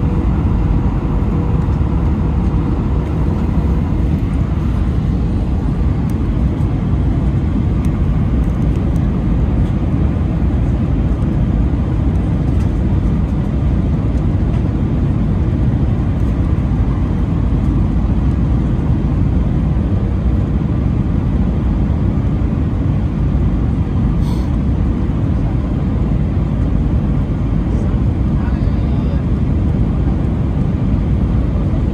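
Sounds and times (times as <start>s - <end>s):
airplane cabin engine rumble: 0.0s - 31.9s.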